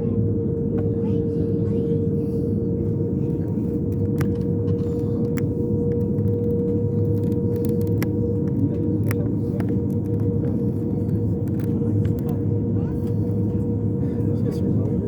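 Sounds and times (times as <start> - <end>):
droning hum: 0.0 - 15.0
jet engine cabin rumble: 0.0 - 15.0.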